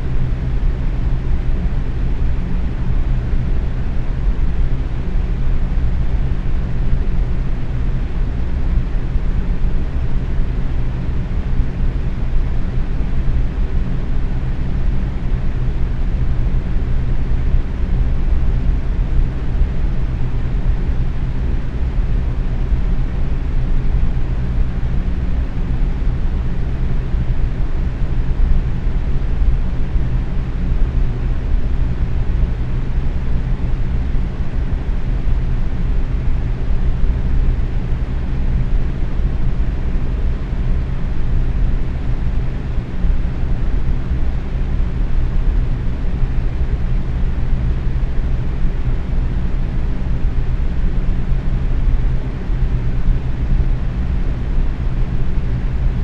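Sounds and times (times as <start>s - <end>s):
box fan running: 0.0s - 56.0s.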